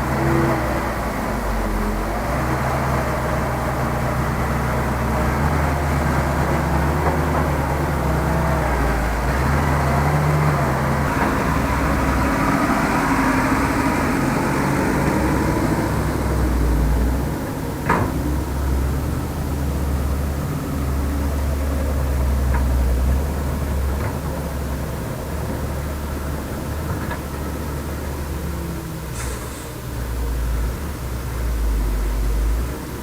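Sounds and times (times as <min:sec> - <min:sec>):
heavy diesel engine rumble: 0:00.0 - 0:33.0.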